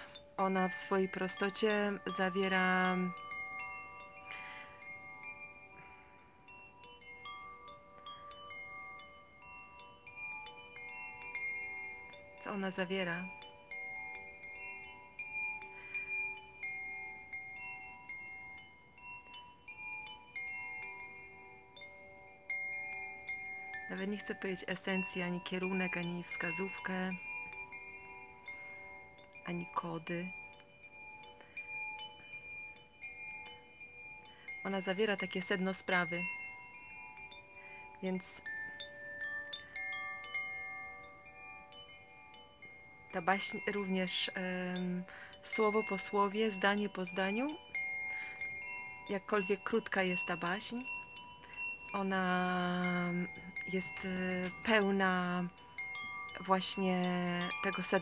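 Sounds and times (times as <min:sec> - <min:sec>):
chimes ringing: 0:00.0 - 0:58.0.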